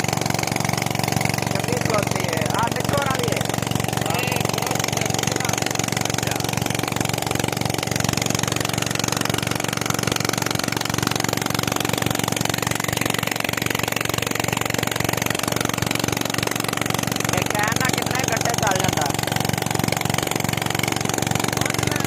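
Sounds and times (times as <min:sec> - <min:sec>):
small petrol engine running: 0:00.0 - 0:22.0
water gushing from pipe: 0:00.0 - 0:22.0.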